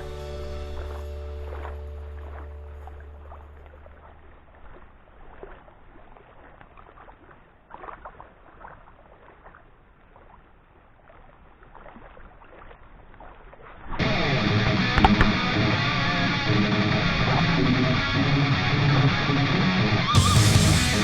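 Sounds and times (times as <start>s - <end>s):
choppy water splashing: 0.0s - 21.0s.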